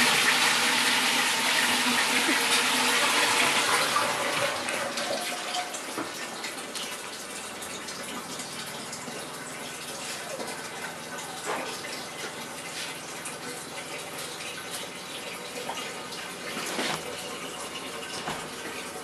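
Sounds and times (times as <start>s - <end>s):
toilet cistern refilling: 0.0s - 19.0s.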